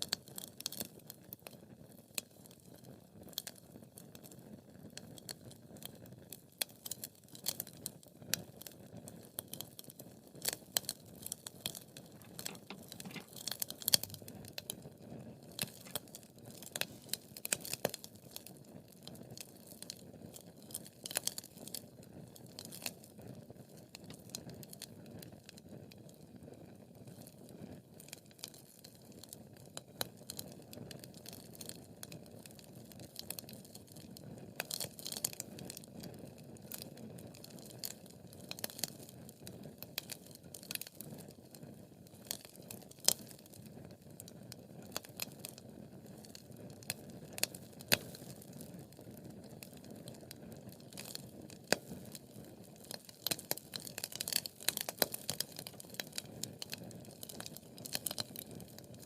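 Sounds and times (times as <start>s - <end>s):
wood fire crackling in fireplace: 0.0s - 59.0s.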